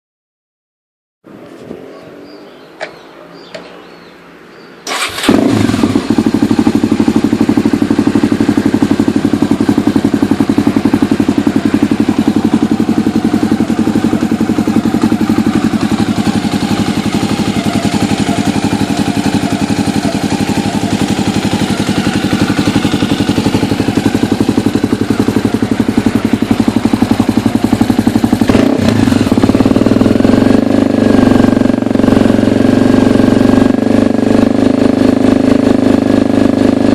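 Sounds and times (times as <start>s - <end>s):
motorcycle engine starting and idling: 4.8s - 36.9s.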